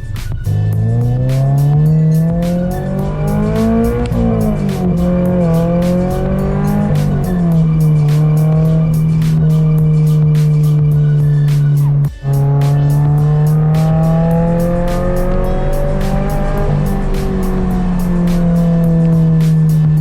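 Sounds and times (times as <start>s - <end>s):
fast steady beat: 0.0s - 20.0s
sliding synth notes: 0.0s - 20.0s.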